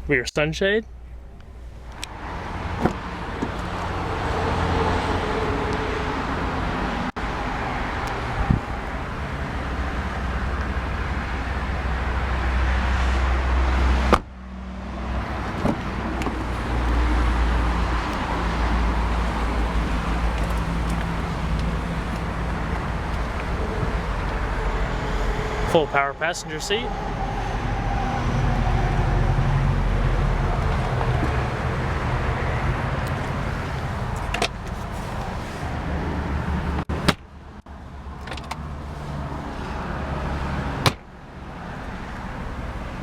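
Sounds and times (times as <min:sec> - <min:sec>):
road traffic rumble and hiss: 0:00.0 - 0:43.0.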